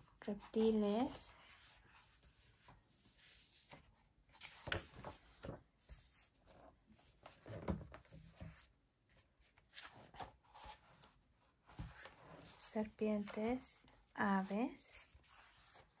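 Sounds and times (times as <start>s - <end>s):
book pages rustling: 0.4s - 16.0s.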